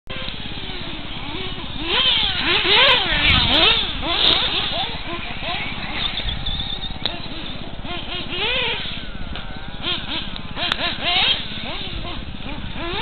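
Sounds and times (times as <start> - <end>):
radio-controlled car motor buzzing: 0.1 - 13.0.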